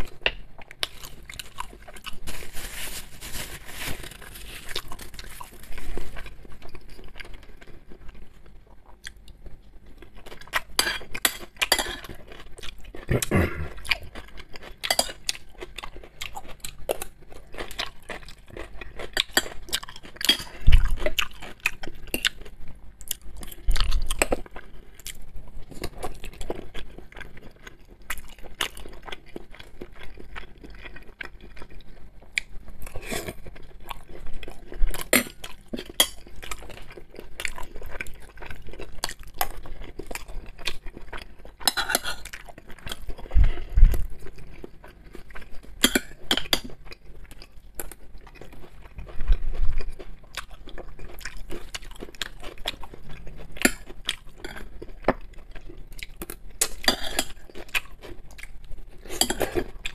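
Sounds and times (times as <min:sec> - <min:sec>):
chewing and mouth sounds: 0:04.6 - 0:59.9.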